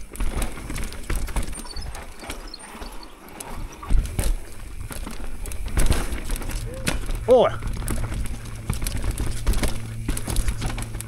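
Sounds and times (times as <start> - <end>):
bike rattling and clicking: 0.0 - 11.0
tyres rumbling: 0.0 - 11.0
wind: 0.0 - 11.0.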